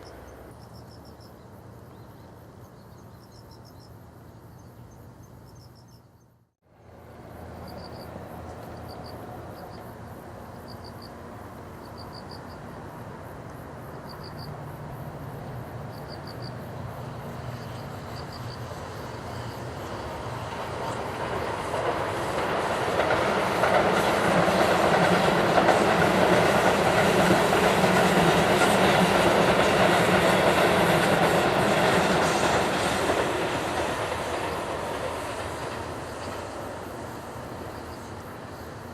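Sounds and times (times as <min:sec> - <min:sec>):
insects chirping: 0:00.0 - 0:38.9
electric train running past: 0:06.7 - 0:38.9.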